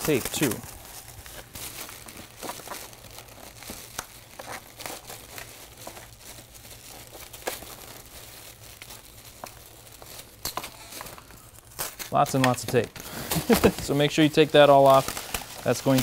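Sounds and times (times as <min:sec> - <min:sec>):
packing tape pulled off: 0:00.0 - 0:16.0
plastic wrap crinkling: 0:00.0 - 0:16.0.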